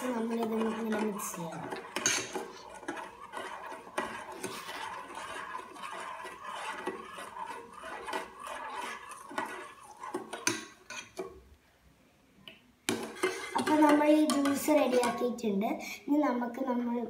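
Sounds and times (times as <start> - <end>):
metal spoon stirring in steel bowl: 0.0 - 11.4, 12.9 - 15.3.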